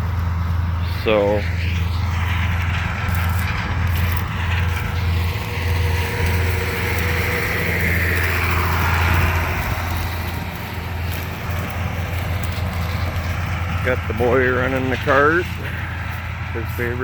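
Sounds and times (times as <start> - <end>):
diesel engine droning: 0.0 - 17.0
high-pitched whine: 0.0 - 17.0.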